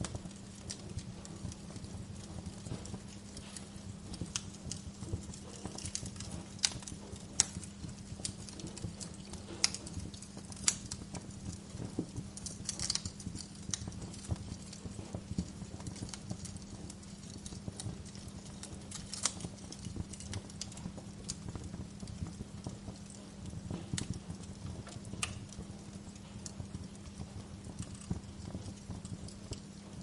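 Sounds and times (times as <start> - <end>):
low fire rumble: 0.0 - 30.0
wood fire crackling: 0.0 - 30.0.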